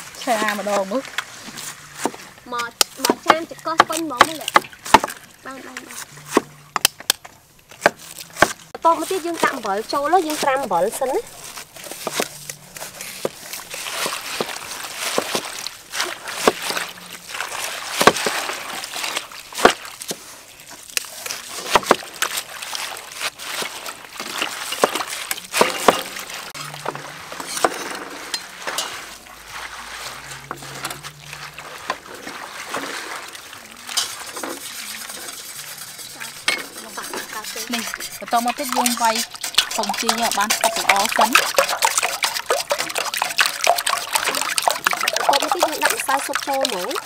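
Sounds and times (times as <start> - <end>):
hand squeezing shredded cabbage: 8.0 - 27.3, 28.2 - 47.0.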